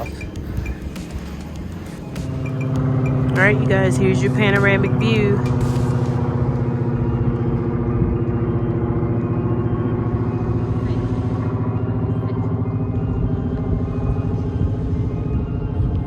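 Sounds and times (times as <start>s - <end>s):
engine running with fast pulse: 0.0s - 16.0s.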